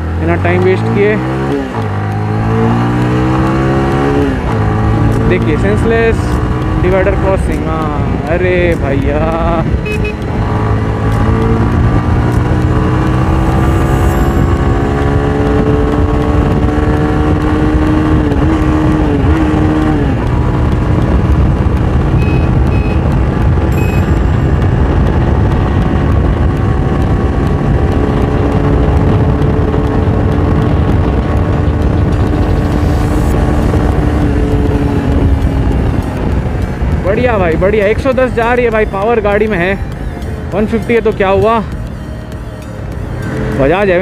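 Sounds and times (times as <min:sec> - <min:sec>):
motorcycle engine pulling hard: 0:00.0 - 0:42.0
wind and road noise: 0:00.0 - 0:44.0.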